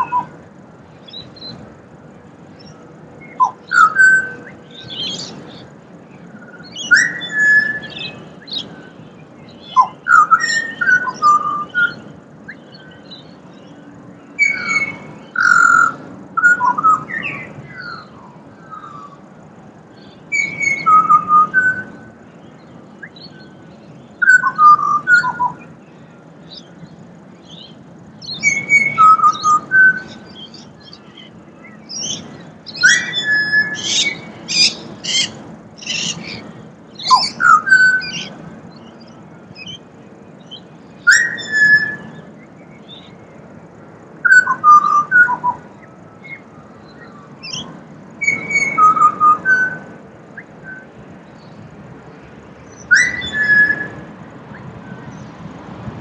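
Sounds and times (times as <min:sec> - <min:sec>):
bird singing whistled notes: 0:00.0 - 0:01.6, 0:02.4 - 0:51.6, 0:52.7 - 0:55.3.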